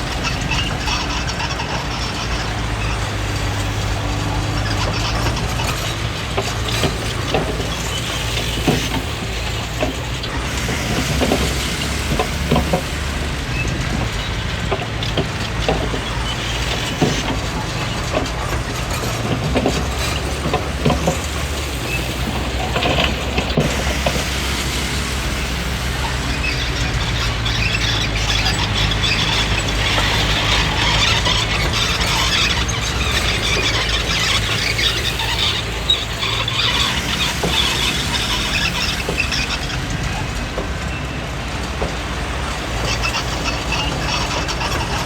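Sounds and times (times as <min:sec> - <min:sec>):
bulldozer diesel engine running: 0:00.0 - 0:45.0
steel tracks clanking: 0:00.0 - 0:45.0.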